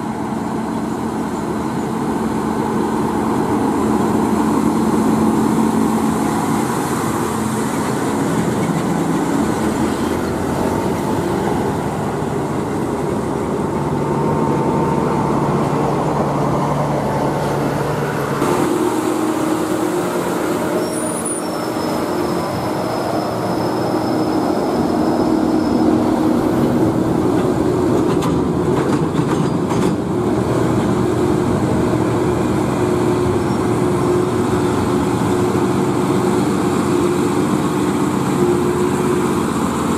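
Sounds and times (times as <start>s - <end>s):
heavy diesel truck engines pulling: 0.0s - 39.9s.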